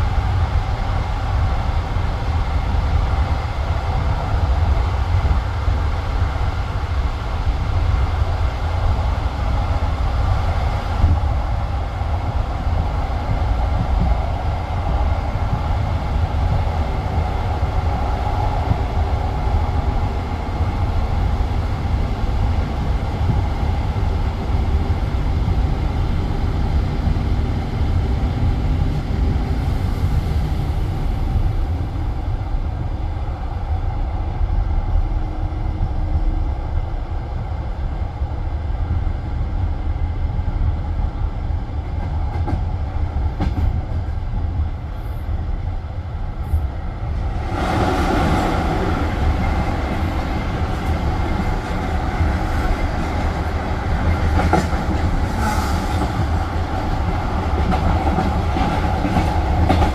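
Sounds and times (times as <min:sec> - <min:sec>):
train carriage rumble: 0:00.0 - 0:59.9.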